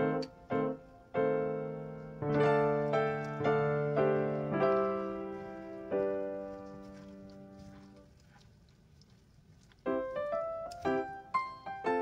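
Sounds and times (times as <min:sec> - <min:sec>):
slow piano notes: 0:00.0 - 0:08.1, 0:09.8 - 0:12.0.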